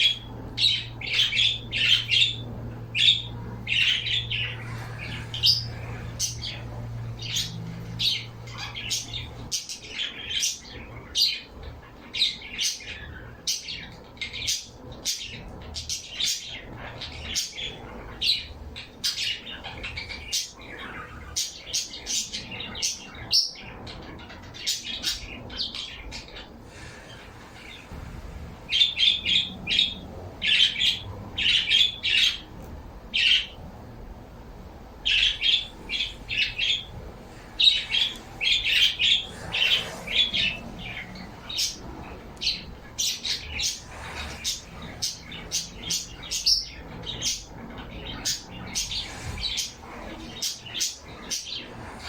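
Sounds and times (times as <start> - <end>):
pet birds chirping and squawking: 0.0 - 52.0.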